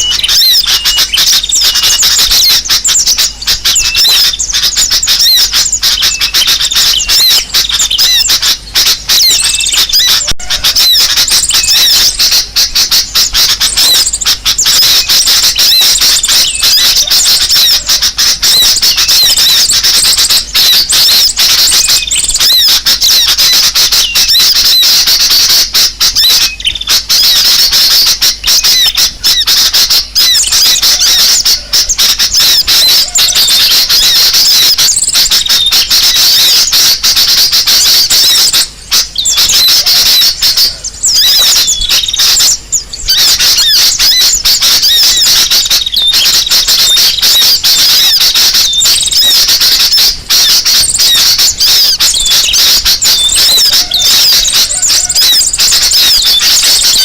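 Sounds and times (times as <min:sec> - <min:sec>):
small birds chattering and squawking: 0:00.0 - 0:57.0.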